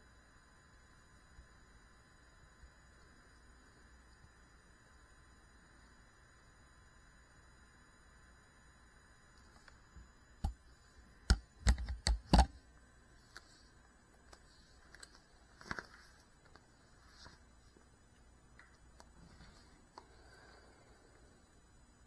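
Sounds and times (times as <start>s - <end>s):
low electronic hiss: 0.0s - 22.0s.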